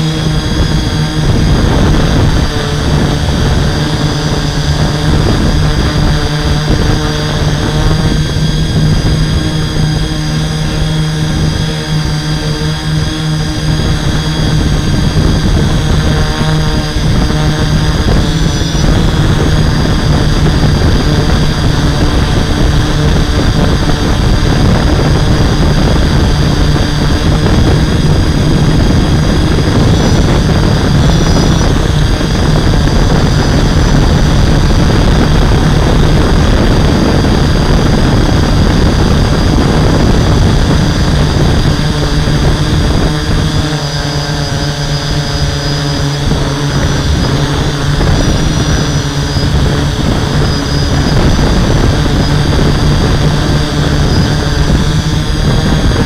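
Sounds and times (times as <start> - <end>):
drone motors and propellers humming: 0.0 - 56.0.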